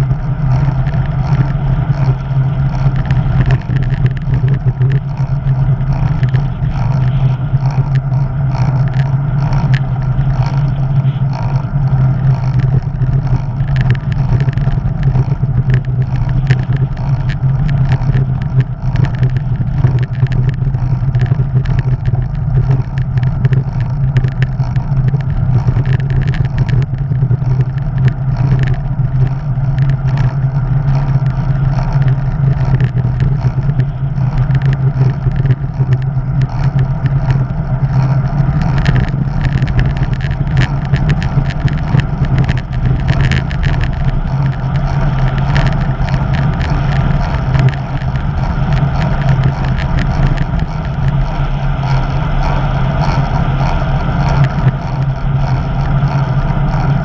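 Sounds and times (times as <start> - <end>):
bicycle tyres on tarmac: 0.0 - 57.0
small rattles and clicks: 0.0 - 57.0
wind noise on microphone: 0.0 - 57.0.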